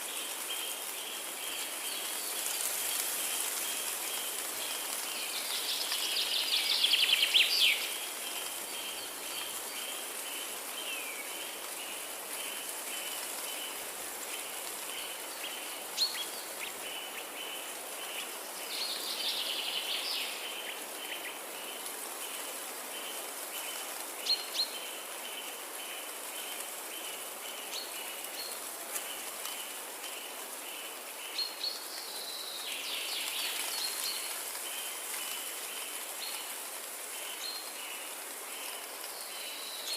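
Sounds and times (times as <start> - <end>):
songbird singing: 0.0 - 39.9
steady forest hiss: 0.0 - 39.9.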